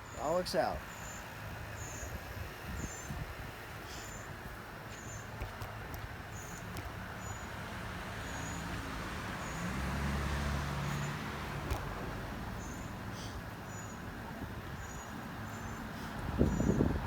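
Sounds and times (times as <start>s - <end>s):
low vehicle-like hum: 0.0s - 17.0s.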